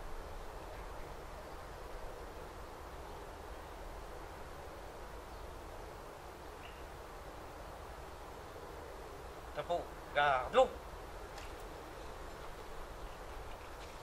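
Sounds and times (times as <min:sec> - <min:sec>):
faint outdoor background noise: 0:00.0 - 0:14.0.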